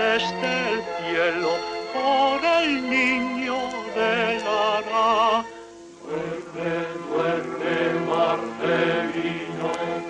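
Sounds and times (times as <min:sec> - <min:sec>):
steady musical accompaniment: 0:00.0 - 0:10.0.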